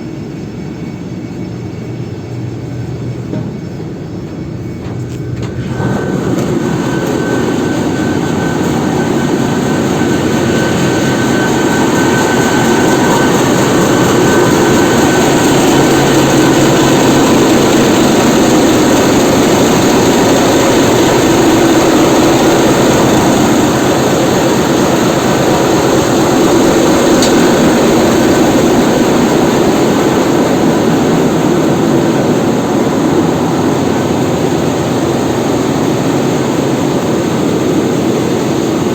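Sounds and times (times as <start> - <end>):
engine room machinery running: 0.0 - 38.9
thin high whine: 0.0 - 38.9.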